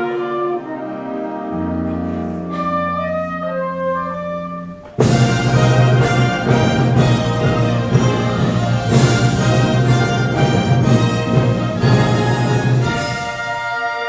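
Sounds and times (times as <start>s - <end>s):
wind band playing: 0.0s - 14.0s.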